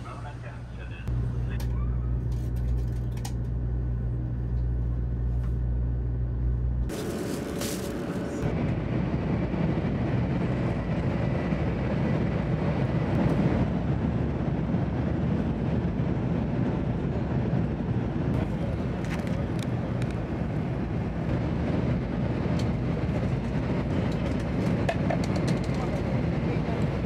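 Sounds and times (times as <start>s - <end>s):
train rumbling inside carriage: 0.0s - 27.0s.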